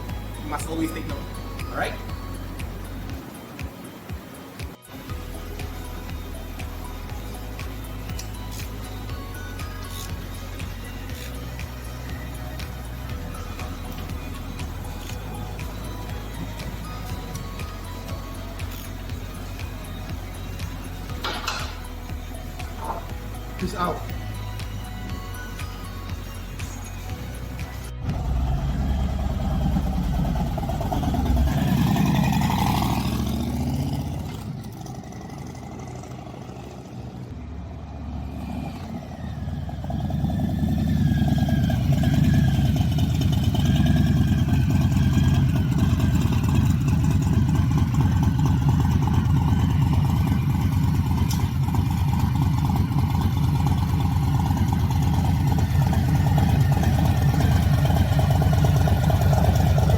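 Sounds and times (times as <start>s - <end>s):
motorcycle engine revving: 9.3s - 24.7s, 26.7s - 59.9s.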